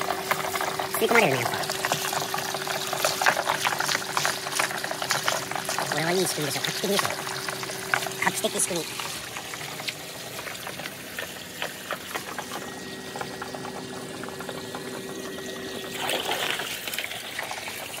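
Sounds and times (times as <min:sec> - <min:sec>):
pump humming faintly: 0:00.0 - 0:18.0
water pouring into plastic tub: 0:00.0 - 0:18.0.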